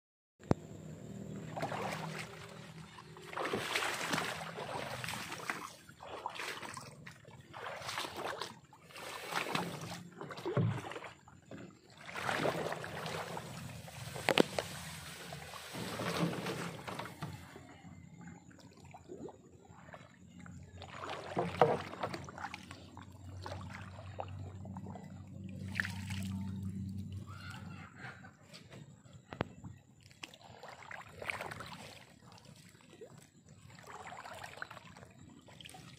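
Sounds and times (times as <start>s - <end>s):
water sloshing and splashing: 0.5s - 35.9s.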